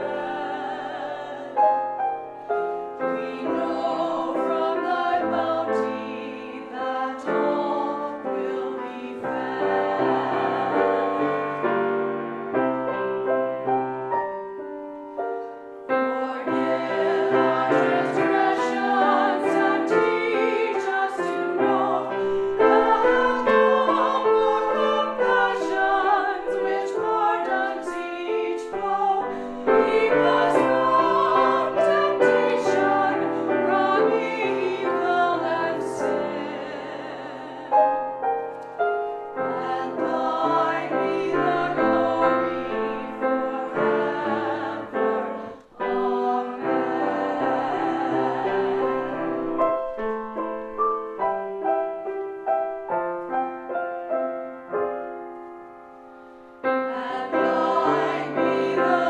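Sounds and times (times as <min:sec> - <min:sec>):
church choir singing: 0:00.0 - 0:55.2, 0:55.9 - 0:59.0
piano accompaniment: 0:00.0 - 0:59.0.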